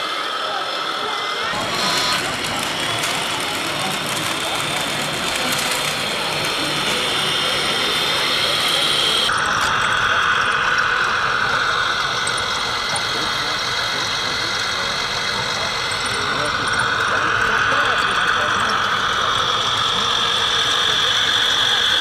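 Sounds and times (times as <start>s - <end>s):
toy truck motor whine: 0.0s - 22.0s.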